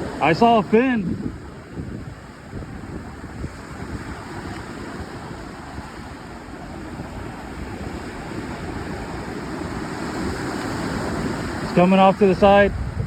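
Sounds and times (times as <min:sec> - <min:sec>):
waves washing: 0:00.0 - 0:13.0
wind buffeting microphone: 0:00.0 - 0:13.0.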